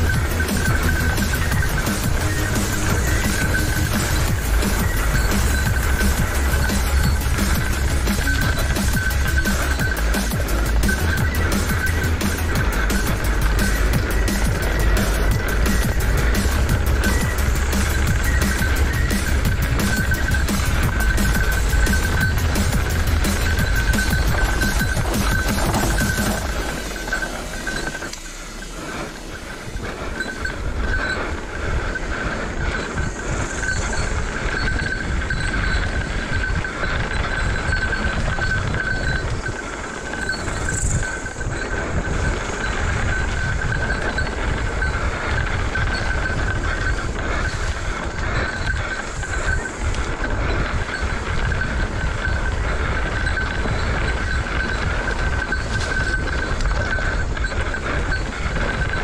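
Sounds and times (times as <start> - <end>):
bike rattling over rough ground: 0.0 - 59.0
steady high whine: 0.0 - 59.0.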